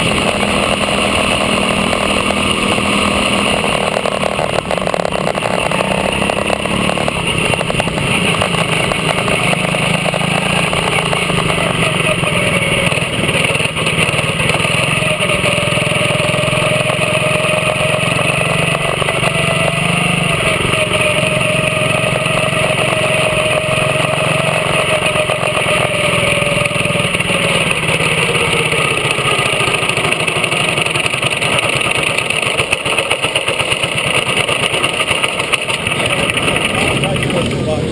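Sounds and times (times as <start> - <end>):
small racing car engine droning: 0.0 - 37.9.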